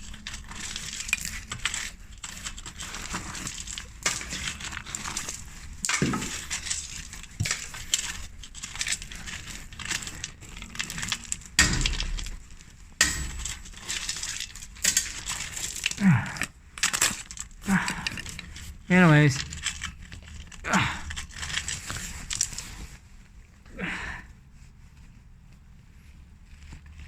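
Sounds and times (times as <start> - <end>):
concrete debris clinking and scraping: 0.0 - 22.9.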